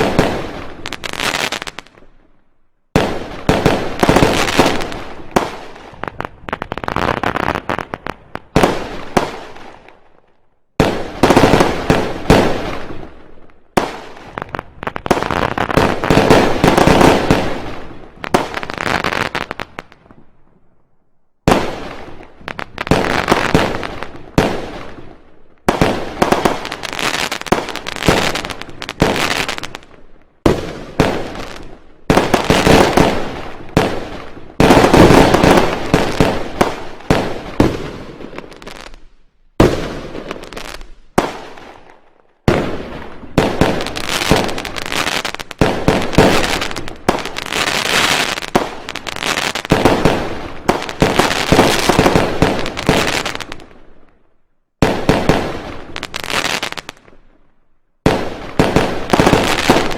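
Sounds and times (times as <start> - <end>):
fireworks bangs and crackling: 0.0 - 20.8, 21.4 - 59.9.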